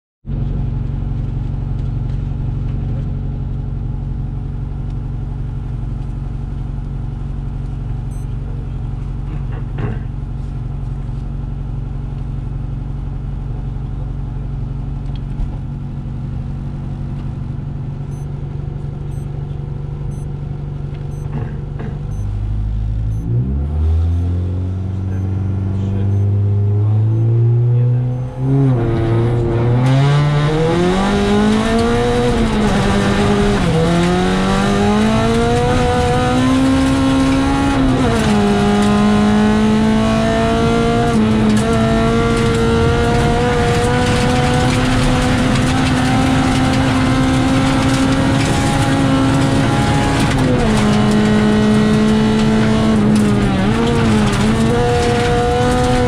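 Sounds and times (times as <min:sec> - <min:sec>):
car engine revving in cabin: 0:00.3 - 0:56.0.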